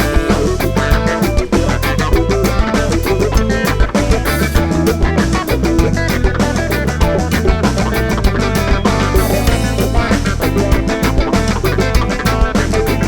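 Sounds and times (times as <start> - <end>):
bass line: 0.0 - 13.0
drum kit: 0.0 - 13.0
electric guitar playing: 0.0 - 13.0.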